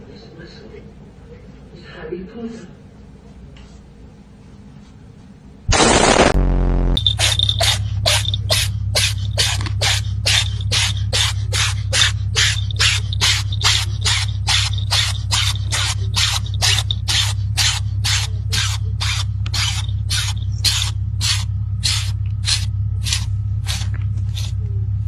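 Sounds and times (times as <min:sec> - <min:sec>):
steady low hum: 0:04.0 - 0:25.0.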